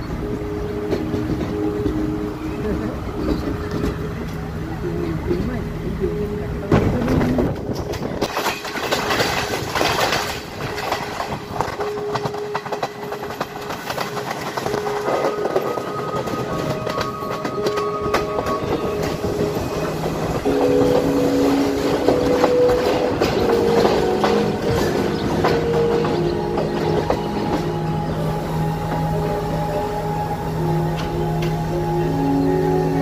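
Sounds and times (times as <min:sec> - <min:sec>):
train wheels clicking on rails: 0:00.0 - 0:05.6, 0:06.6 - 0:31.7.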